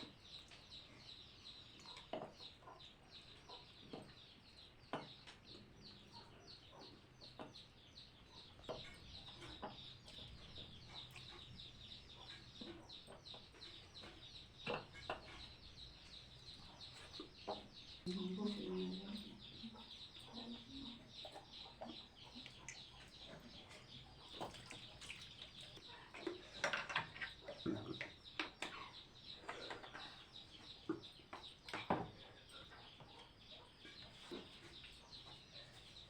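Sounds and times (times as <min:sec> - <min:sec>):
chickens clucking: 0:01.7 - 0:36.0.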